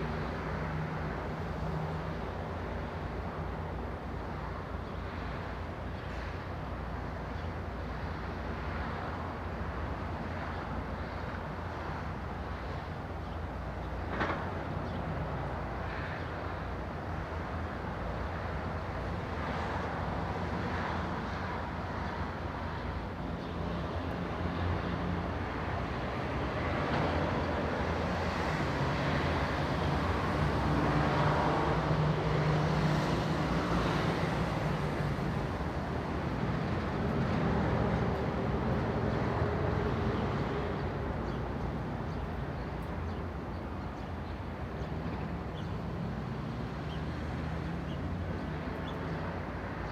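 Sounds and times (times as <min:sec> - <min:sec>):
distant traffic: 0:00.0 - 0:49.9.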